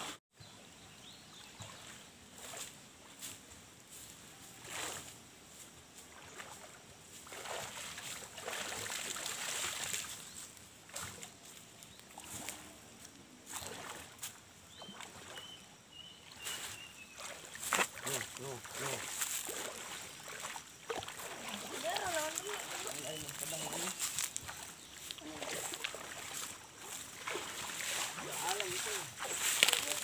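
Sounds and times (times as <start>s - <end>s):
stream water splashing: 4.5s - 30.0s.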